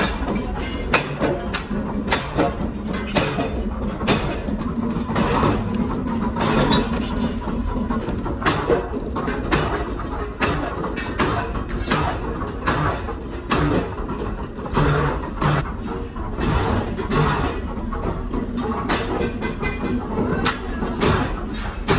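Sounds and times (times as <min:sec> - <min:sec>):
knocks and clatter: 0:00.0 - 0:21.9.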